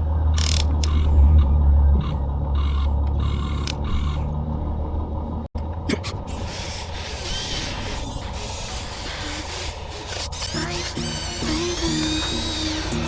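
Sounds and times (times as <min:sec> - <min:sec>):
electric motors and gears whirring: 0:00.0 - 0:13.0.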